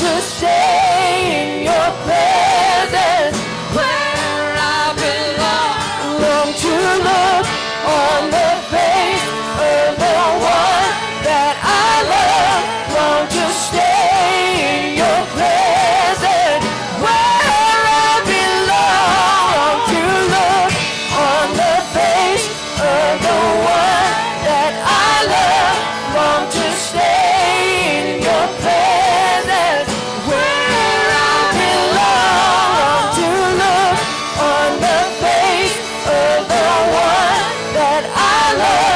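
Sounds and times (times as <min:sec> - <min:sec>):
band playing chords and beat: 0:00.0 - 0:38.9
voices singing: 0:00.0 - 0:38.9.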